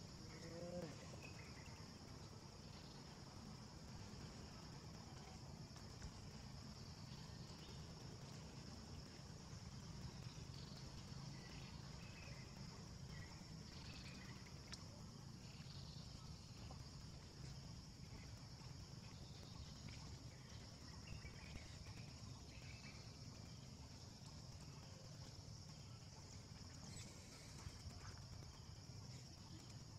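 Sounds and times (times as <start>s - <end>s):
high insect drone: 0.0s - 29.9s.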